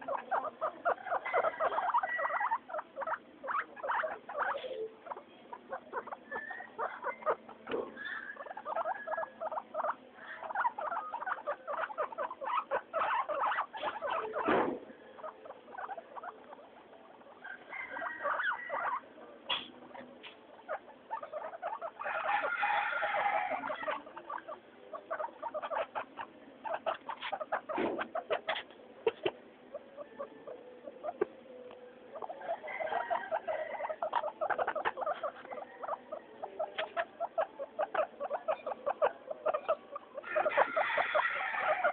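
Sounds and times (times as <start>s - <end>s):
guinea pigs squeaking: 0.0s - 41.9s.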